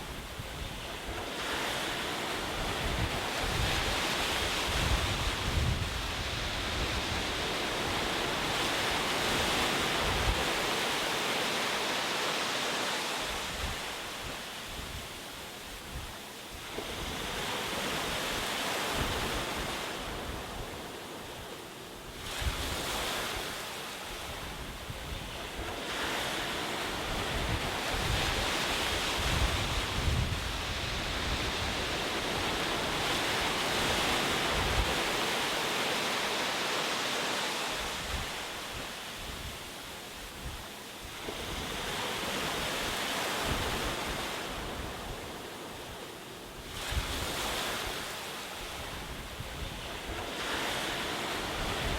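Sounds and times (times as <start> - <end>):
ocean waves washing onto shore: 0.0 - 51.9.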